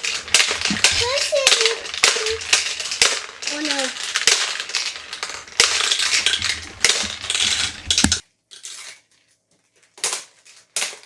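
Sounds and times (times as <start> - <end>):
plastic game pieces clattering: 0.0 - 9.0.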